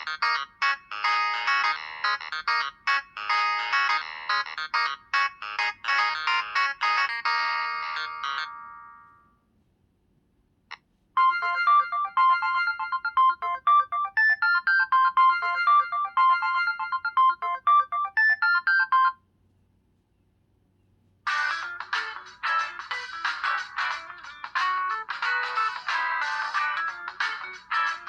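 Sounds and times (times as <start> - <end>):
phone ringtone melody: 0.0 - 9.3, 11.2 - 19.2, 21.3 - 28.0.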